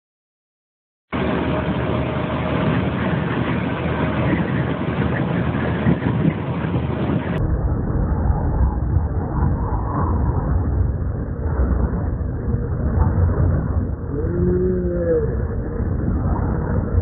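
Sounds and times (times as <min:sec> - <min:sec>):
strong wind: 0:01.1 - 0:17.0.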